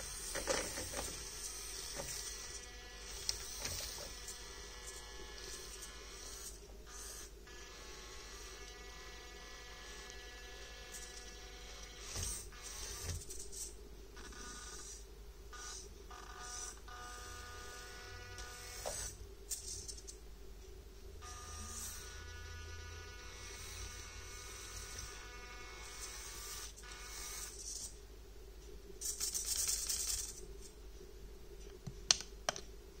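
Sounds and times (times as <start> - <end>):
small gear motor whining: 0.0 - 20.0, 21.2 - 27.9.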